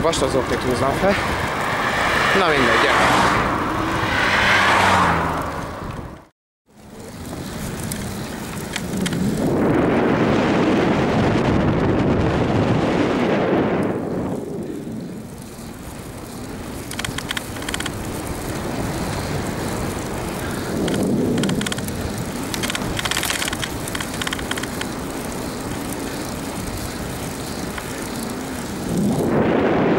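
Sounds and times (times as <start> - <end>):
wind rushing over microphone: 0.0 - 6.3, 7.0 - 29.9
bicycle tyre noise on asphalt: 0.0 - 29.9.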